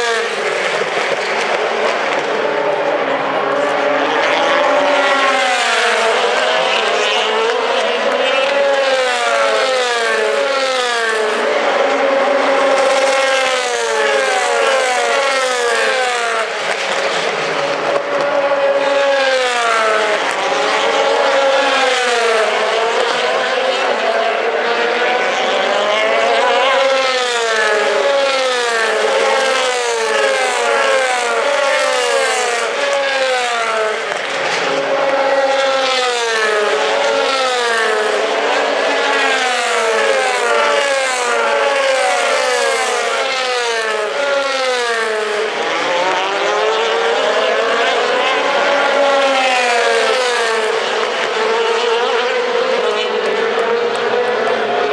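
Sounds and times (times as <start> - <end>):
race car engines: 0.0 - 54.9.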